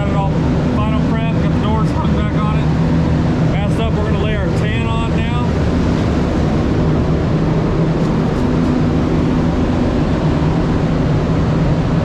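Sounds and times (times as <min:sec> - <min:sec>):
low hum: 0:00.0 - 0:12.0
ventilation fans rushing air: 0:00.0 - 0:12.0.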